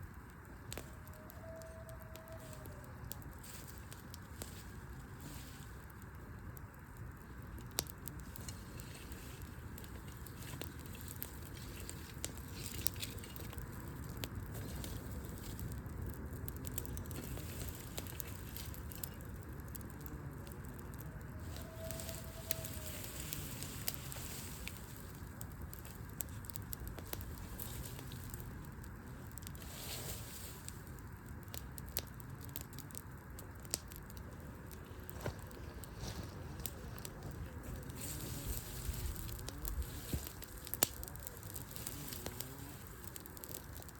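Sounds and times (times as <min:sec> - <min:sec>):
campfire crackling and popping: 0:00.0 - 0:43.9
fire low rush: 0:00.0 - 0:43.9.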